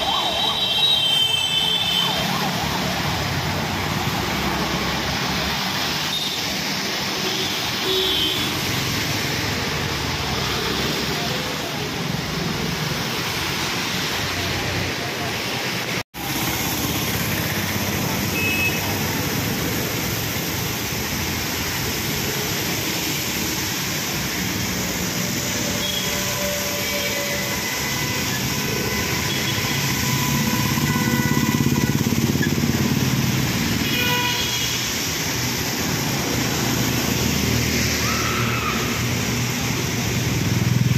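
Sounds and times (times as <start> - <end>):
cars driving through water: 0.0 - 40.9
heavy rain on a wet street: 0.0 - 40.9.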